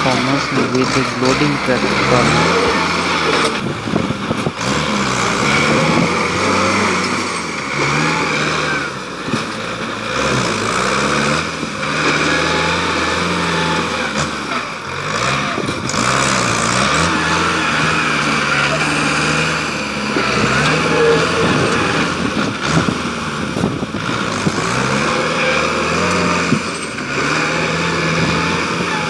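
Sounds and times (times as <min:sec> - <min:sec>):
tractor diesel engine revving: 0:00.0 - 0:29.0.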